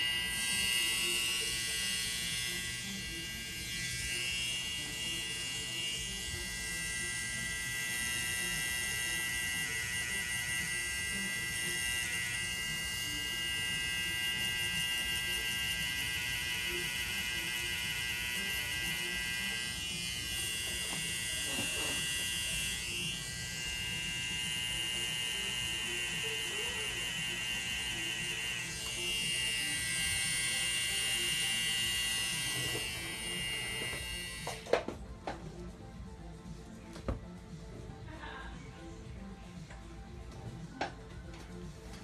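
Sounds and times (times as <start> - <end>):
tattoo machine buzzing: 0.0 - 34.9.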